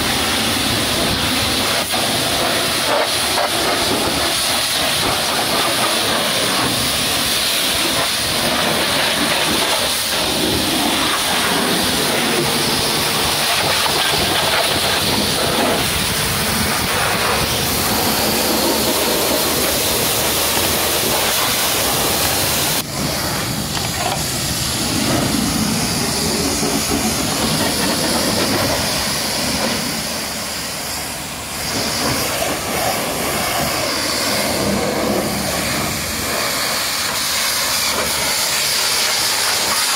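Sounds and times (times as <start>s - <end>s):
pressure washer jet hissing: 0.0s - 39.9s.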